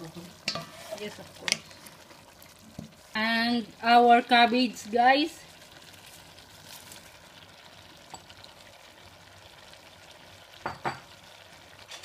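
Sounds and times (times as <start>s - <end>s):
food sizzling in pan: 0.0s - 12.0s.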